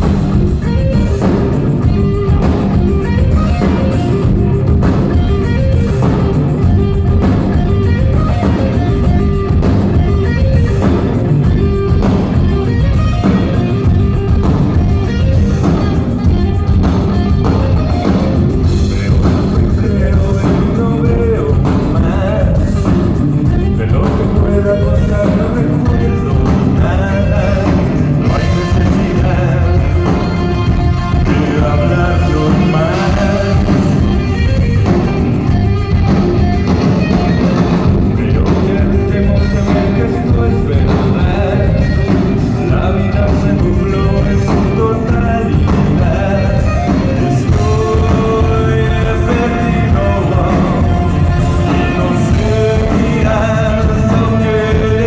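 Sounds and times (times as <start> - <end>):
person singing: 0.0 - 55.0
rock music with electric guitar: 0.0 - 55.0.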